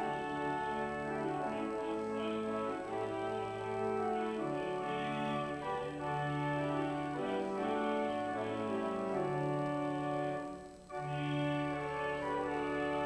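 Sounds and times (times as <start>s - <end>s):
organ playing sustained chords: 0.0s - 13.0s.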